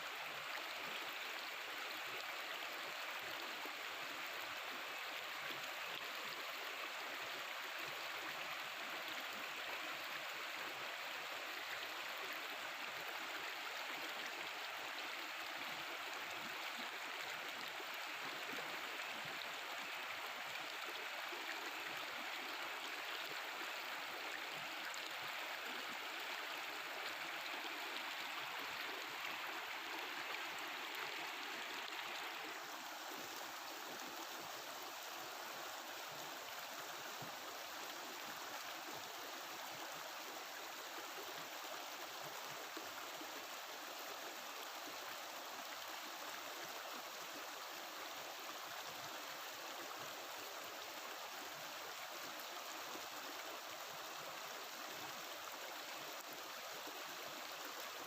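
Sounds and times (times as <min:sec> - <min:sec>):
river water babbling over rocks: 0:00.0 - 0:58.0.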